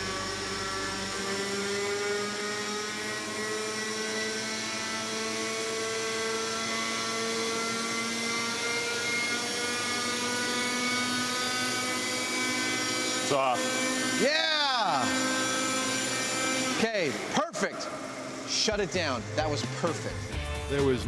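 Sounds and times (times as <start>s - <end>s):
model helicopter rotor whining: 0.0s - 19.5s.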